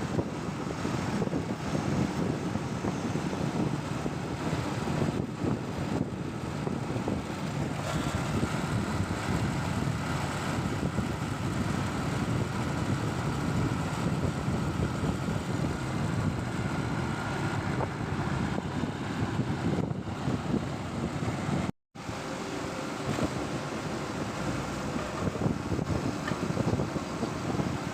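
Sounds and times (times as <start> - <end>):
wind rumbling on microphone: 0.0 - 21.7, 22.8 - 27.9
vehicle and road noise: 0.0 - 27.9.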